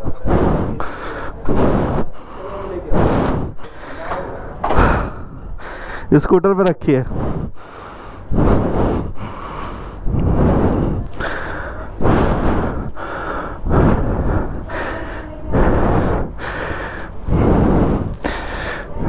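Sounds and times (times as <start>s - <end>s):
person breathing hard: 0.0s - 6.3s, 7.0s - 19.0s.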